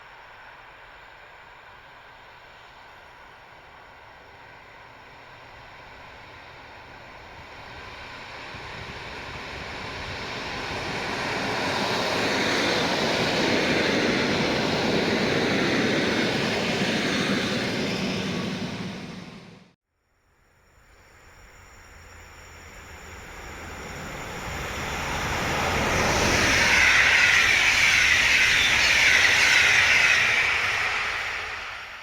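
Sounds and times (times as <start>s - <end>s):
train rumbling past: 0.0s - 19.8s, 21.0s - 32.0s.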